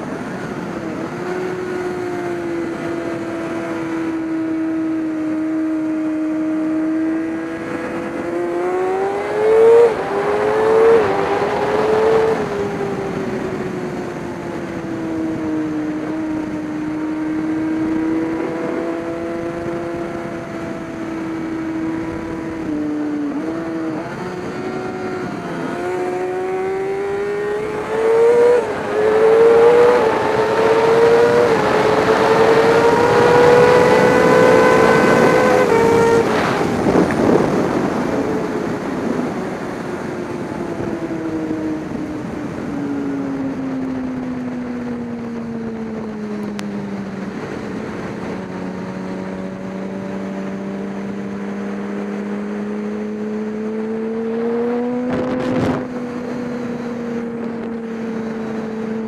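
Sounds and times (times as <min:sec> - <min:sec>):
race engine revving and upshifting: 0:00.0 - 0:59.0.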